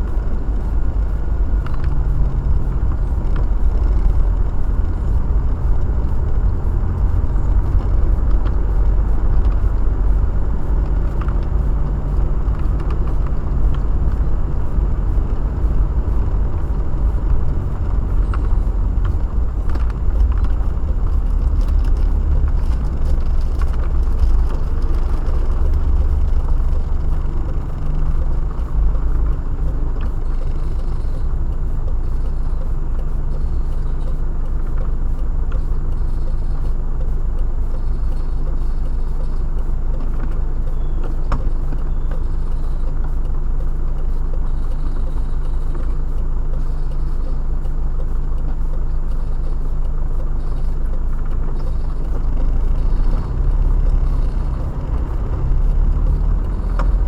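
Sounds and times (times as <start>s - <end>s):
road and engine rumble in car: 0.0s - 57.0s
small scattered ticks: 0.1s - 57.0s.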